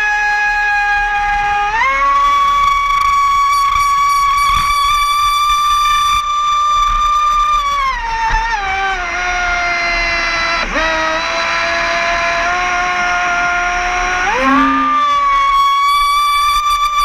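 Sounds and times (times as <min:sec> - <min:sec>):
rc speedboat motor whining: 0:00.0 - 0:17.0.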